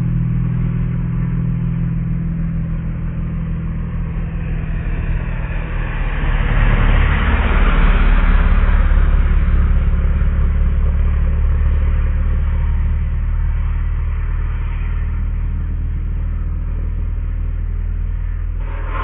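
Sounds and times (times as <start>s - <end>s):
motorcycle engine rumble: 0.0s - 19.0s.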